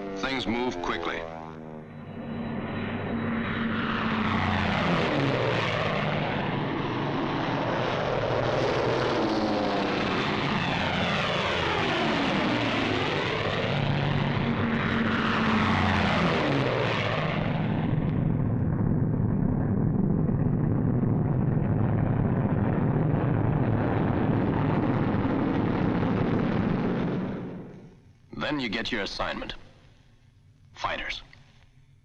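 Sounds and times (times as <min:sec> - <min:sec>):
propeller aircraft flying past: 0:00.0 - 0:28.3.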